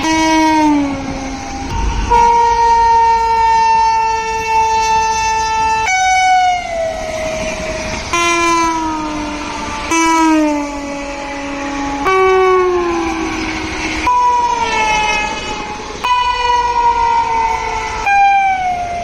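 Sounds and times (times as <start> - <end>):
locomotive air horn blasts: 0.0 - 18.2.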